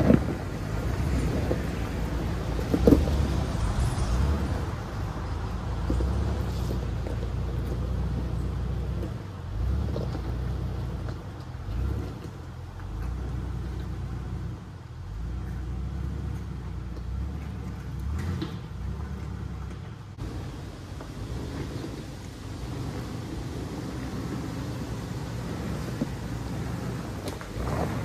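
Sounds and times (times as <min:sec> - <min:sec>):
engine running at low revs: 0:00.0 - 0:28.0.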